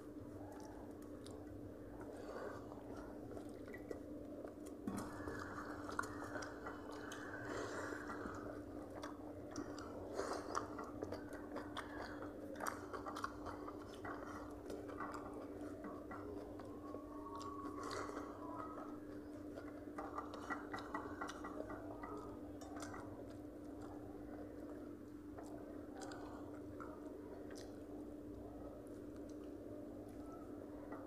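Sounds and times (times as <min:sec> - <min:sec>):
people chewing and eating: 0:00.0 - 0:31.0.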